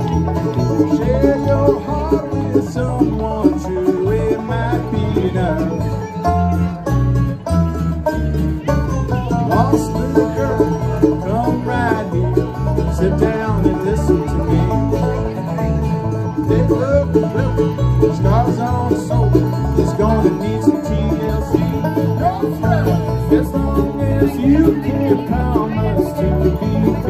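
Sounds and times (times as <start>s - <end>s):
acoustic guitar: 0.0s - 27.0s
banjo: 0.0s - 27.0s
bass line: 0.0s - 27.0s
bluegrass band playing: 0.0s - 27.0s
mandolin: 0.0s - 27.0s.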